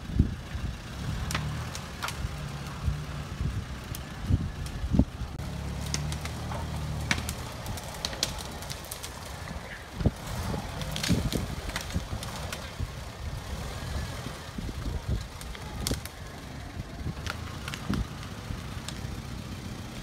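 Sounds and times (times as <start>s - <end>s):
branches cracking under wheels: 0.0s - 20.0s
engine running at low revs: 0.0s - 20.0s.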